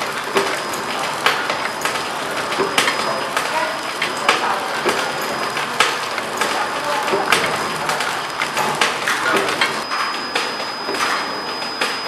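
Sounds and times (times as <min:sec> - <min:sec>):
packing machine running: 0:00.0 - 0:12.0
rapid clicks and knocks of rollers: 0:00.0 - 0:12.0.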